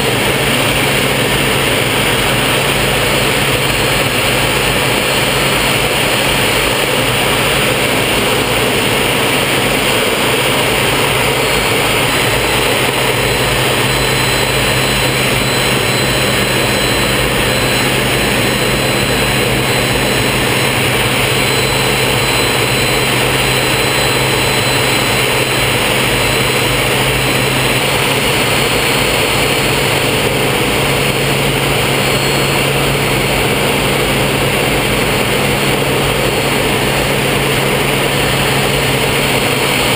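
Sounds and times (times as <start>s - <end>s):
jet engine roar in cockpit: 0.0s - 39.9s.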